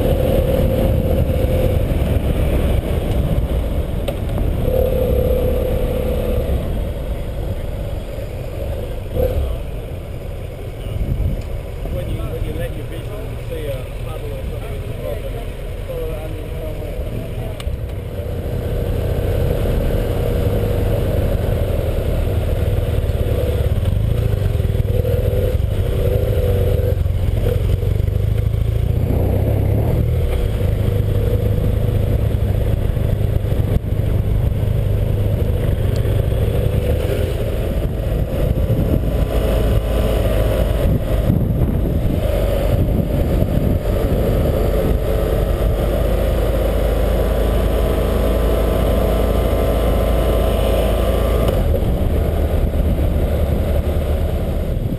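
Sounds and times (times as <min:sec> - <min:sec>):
wind noise: 0:00.0 - 0:07.3, 0:10.8 - 0:12.3, 0:19.6 - 0:54.9
motorcycle engine: 0:00.0 - 0:54.9.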